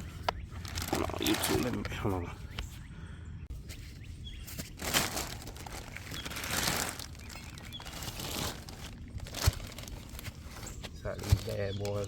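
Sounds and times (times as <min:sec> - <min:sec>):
rustling and crinkling: 0:00.0 - 0:02.8, 0:03.5 - 0:12.0.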